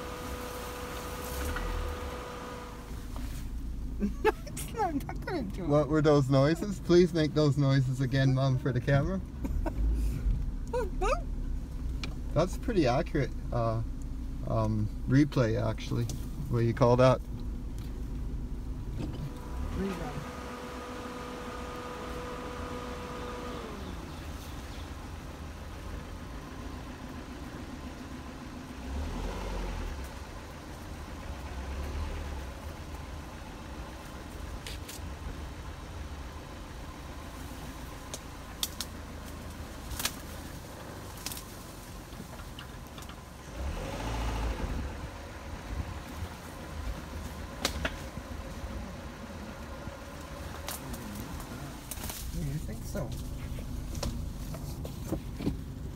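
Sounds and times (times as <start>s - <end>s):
car engine rumbling: 0.0s - 55.9s.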